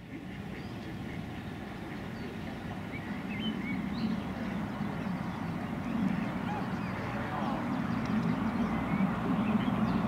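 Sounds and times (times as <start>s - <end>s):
steady low rumble: 0.1s - 10.0s.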